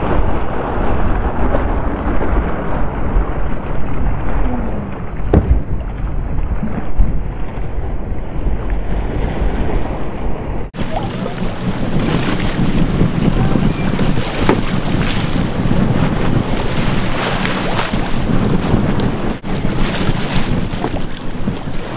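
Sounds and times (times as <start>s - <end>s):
boat engine and water rush: 0.0s - 21.9s
wind buffeting microphone: 0.0s - 21.9s.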